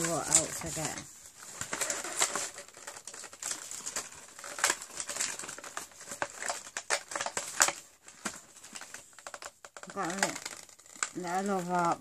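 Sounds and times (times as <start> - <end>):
cardboard packaging crinkling: 0.0 - 12.0.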